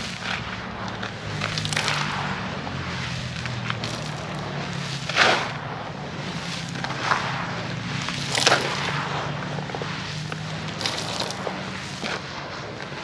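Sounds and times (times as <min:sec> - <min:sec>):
grit pouring and crunching: 0:00.0 - 0:12.6
gritty rustle of concrete mix: 0:00.0 - 0:13.0.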